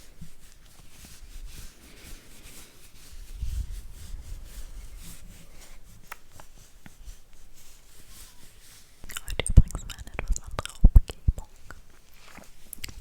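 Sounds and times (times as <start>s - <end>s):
soft rubbing and scratching: 0.0s - 13.0s.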